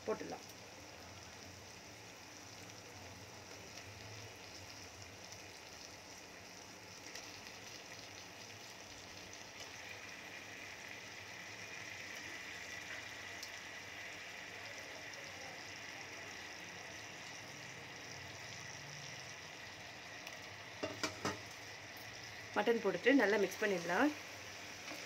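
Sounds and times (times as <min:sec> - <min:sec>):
masala sizzling in oil: 0:00.0 - 0:25.0.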